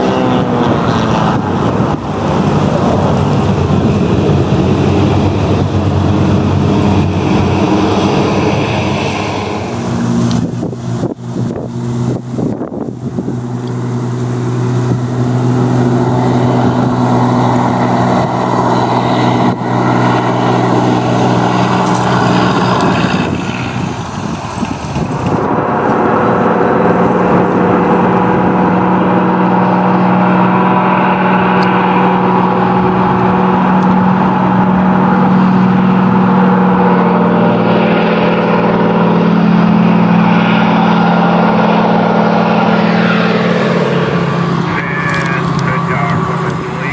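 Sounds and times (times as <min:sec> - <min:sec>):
floatplane engine and propeller drone: 0:00.0 - 0:46.9
wind buffeting microphone: 0:00.0 - 0:46.9.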